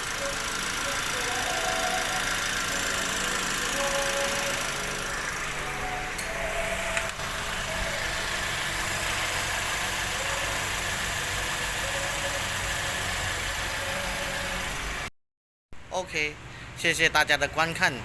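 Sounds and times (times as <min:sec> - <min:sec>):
car engine idling: 0:00.0 - 0:15.1.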